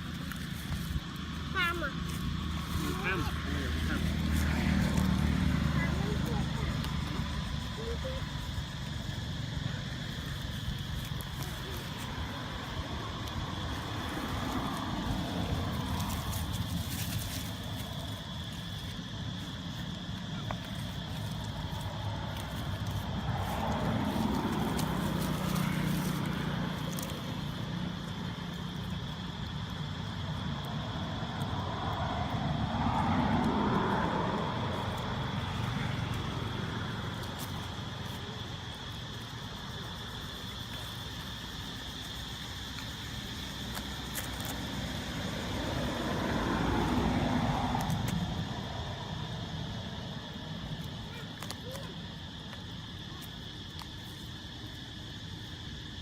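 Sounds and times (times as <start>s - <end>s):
motor vehicle passing by: 1.4s - 10.5s, 11.7s - 39.1s, 42.3s - 51.0s.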